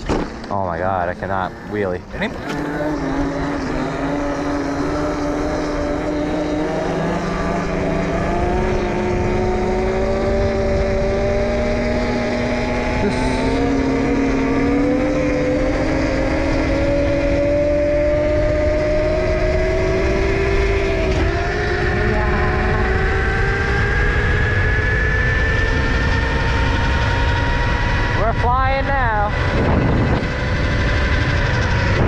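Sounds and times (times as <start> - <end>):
electric motor whining: 0.8 - 32.0
wind rumble on camera: 2.2 - 32.0.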